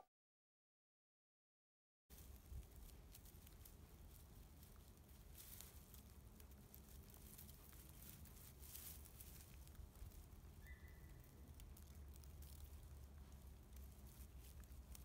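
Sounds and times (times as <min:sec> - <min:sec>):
low steady rumble: 0:02.1 - 0:15.0
puppy chewing canvas toy: 0:02.2 - 0:15.0.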